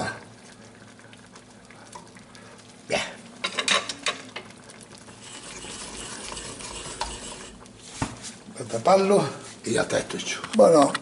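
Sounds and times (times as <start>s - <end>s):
sauce simmering hiss: 0.0s - 11.0s.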